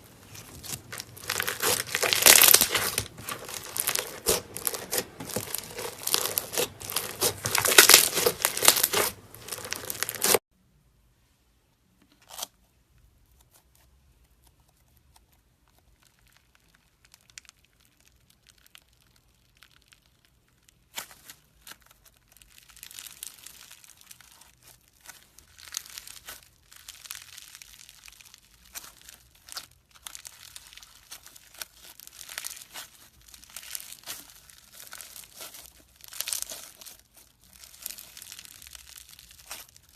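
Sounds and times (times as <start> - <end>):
slime crackling: 0.0 - 10.4, 14.6 - 39.9.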